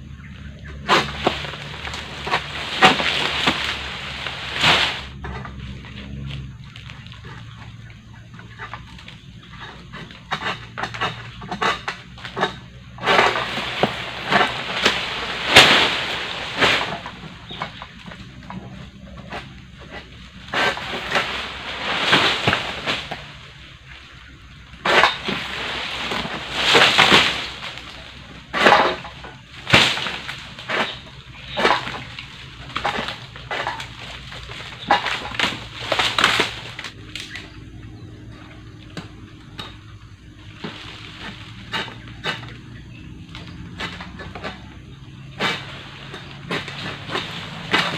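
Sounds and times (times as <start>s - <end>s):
sickle cutting palm fronds: 0.2s - 47.9s.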